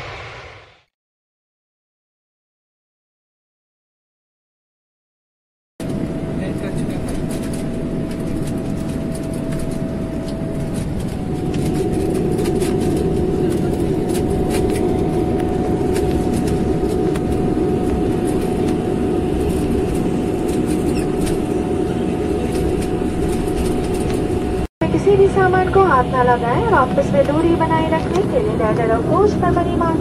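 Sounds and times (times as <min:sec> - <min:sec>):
engine hum rising in pitch: 0:05.8 - 0:30.0
propeller plane engines droning: 0:05.8 - 0:30.0.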